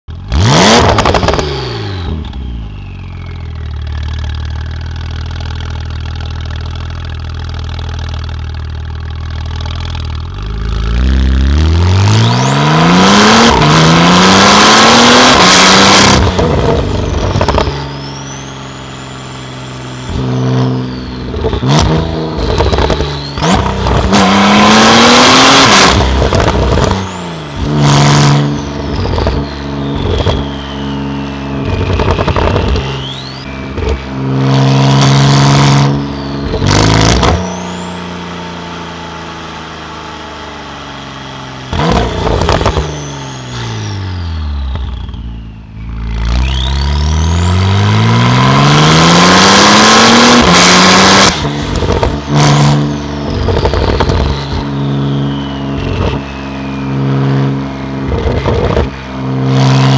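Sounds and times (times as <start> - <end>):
car engine revving and accelerating: 0.2 - 2.6, 9.6 - 59.9.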